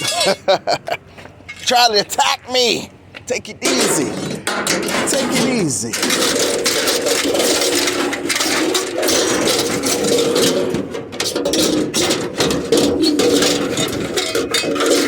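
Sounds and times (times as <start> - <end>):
scrap metal clattering and scraping: 0.0 - 0.5, 3.2 - 15.0.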